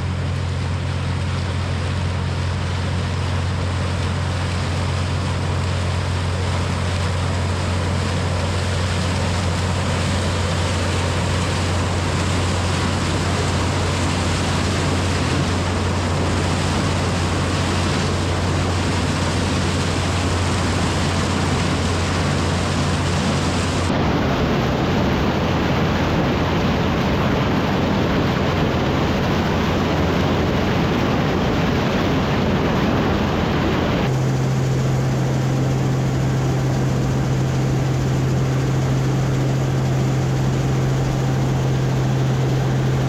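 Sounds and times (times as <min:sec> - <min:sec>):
heavy machinery engine running: 0:00.0 - 0:43.0.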